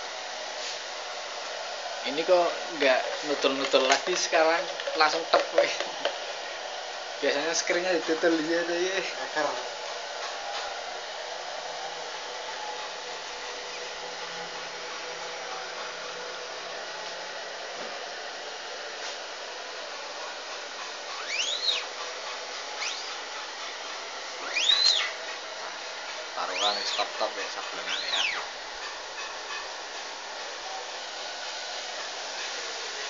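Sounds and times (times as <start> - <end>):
hair dryer blowing: 0.0 - 33.0.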